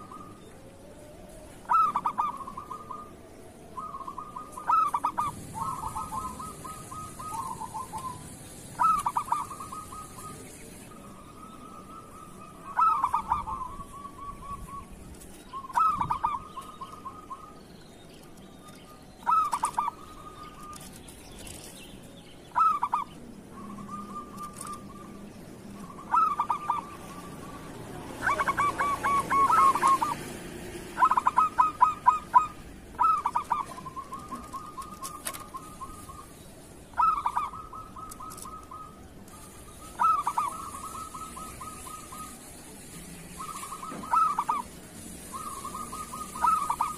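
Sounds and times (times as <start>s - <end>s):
dove cooing: 0.0s - 17.6s, 19.2s - 21.6s, 22.5s - 46.9s.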